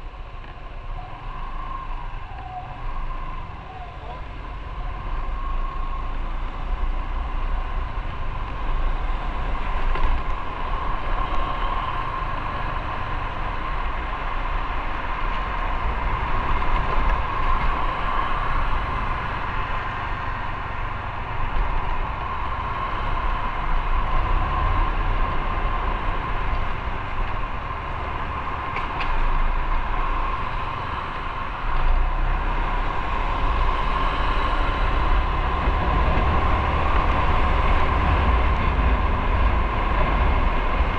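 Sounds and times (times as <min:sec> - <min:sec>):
motorcycle engine drone: 0:00.0 - 0:40.9
wind and road noise: 0:00.0 - 0:40.9.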